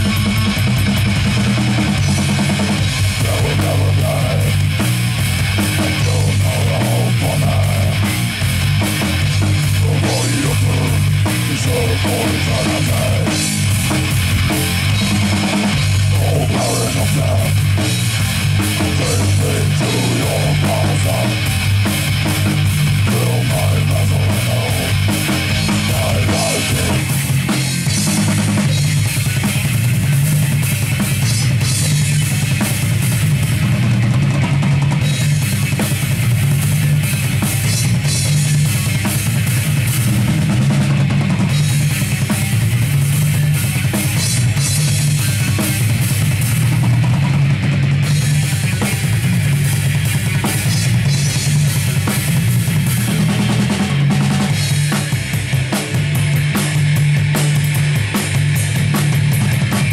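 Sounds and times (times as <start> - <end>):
driving bass drum: 0.0 - 59.9
heavy metal band playing live: 0.0 - 59.9.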